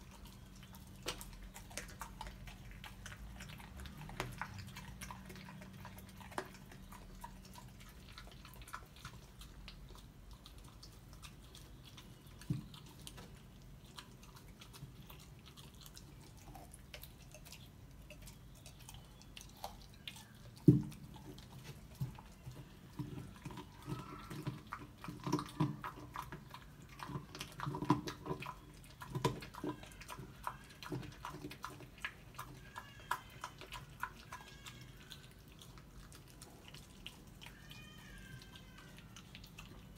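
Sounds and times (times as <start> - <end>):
puppy crunching bones: 0.0 - 39.9.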